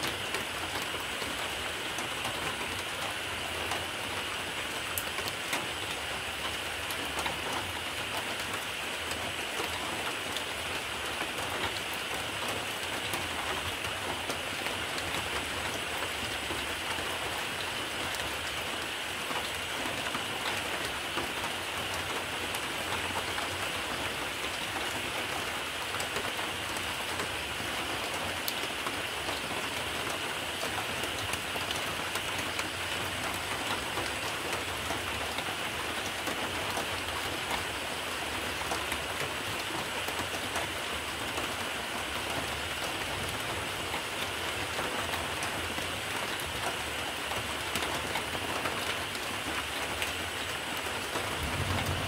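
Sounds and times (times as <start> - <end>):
rain falling on a surface: 0.0 - 52.0.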